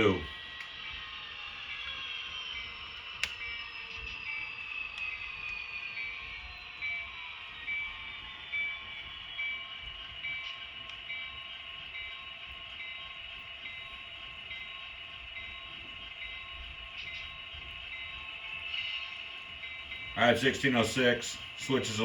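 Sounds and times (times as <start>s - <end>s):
model locomotive engine sound: 0.0s - 22.0s.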